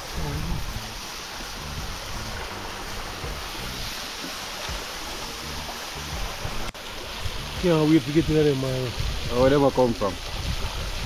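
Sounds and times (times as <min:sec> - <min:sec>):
wind rumble on microphone: 0:00.0 - 0:04.0, 0:04.6 - 0:11.0
stream rushing over rocks: 0:00.0 - 0:11.0.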